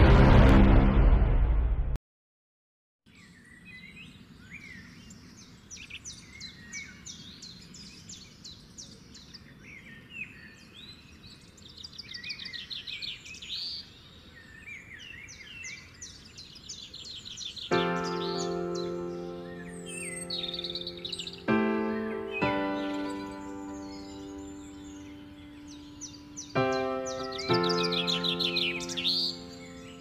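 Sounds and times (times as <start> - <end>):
small birds chirping and trilling: 3.1 - 30.0.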